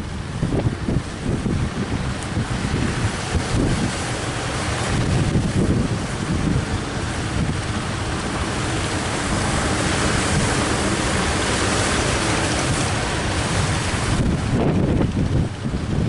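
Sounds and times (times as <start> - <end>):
strong wind: 0.0 - 16.0
surf at sea: 0.0 - 16.0.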